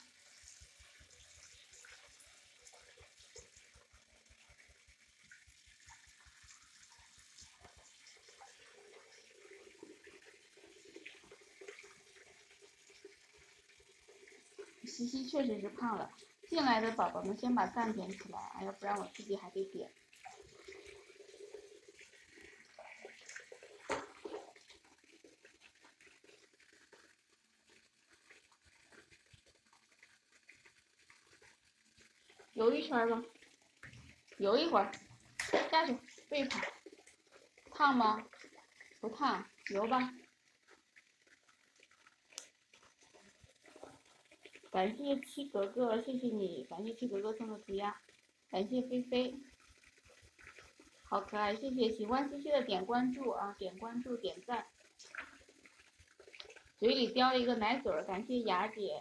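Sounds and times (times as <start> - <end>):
small water splashes: 0.0 - 59.0
tap water running into sink: 0.0 - 59.0.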